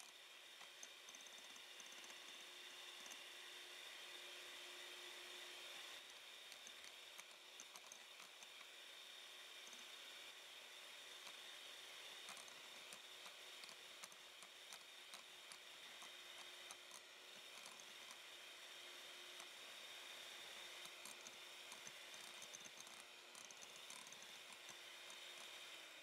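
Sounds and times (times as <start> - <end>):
beaters ticking and squishing in batter: 0.0 - 3.4, 6.0 - 26.0
electric hand mixer whirring: 0.0 - 26.0.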